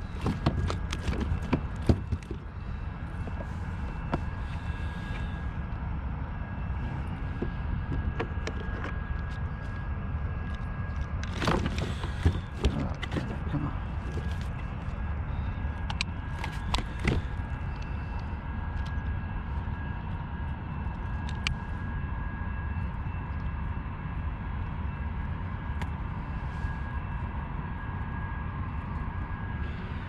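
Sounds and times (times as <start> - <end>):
faint steady whine: 0.0 - 30.0
steady low rumble: 0.0 - 30.0.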